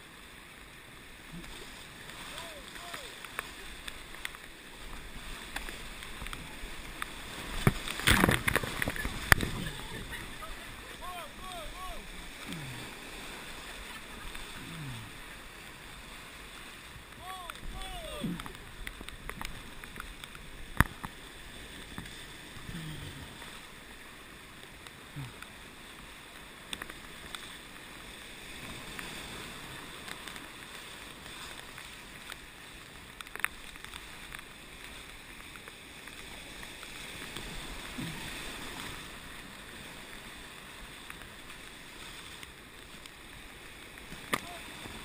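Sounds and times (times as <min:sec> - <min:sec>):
whitewater rapids rushing: 0:00.0 - 0:45.0.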